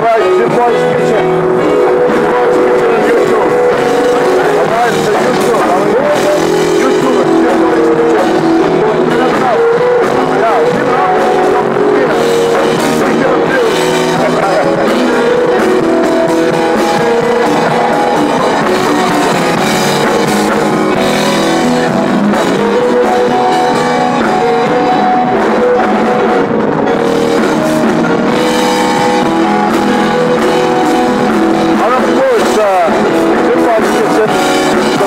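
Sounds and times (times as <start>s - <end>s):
drum kit: 0.0s - 35.0s
electric guitar: 0.0s - 35.0s
keyboard: 0.0s - 35.0s
live band playing: 0.0s - 35.0s.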